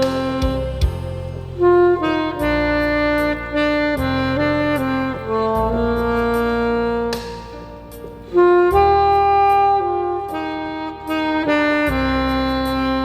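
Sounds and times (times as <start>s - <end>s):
backing accompaniment: 0.0s - 13.0s
saxophone slow melody: 0.0s - 13.0s.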